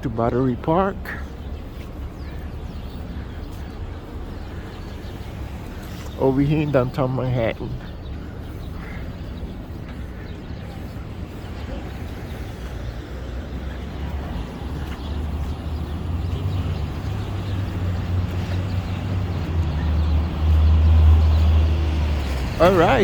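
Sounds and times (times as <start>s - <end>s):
passing vehicles rumble: 0.0s - 23.0s.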